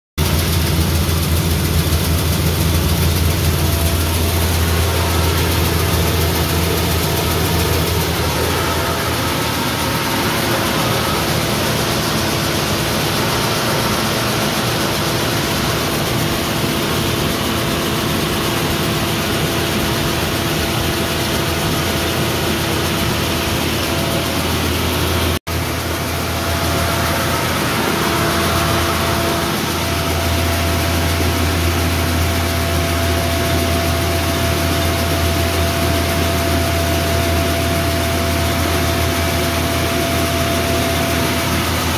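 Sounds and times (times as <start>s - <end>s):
rice milling machine running: 0.2s - 41.9s.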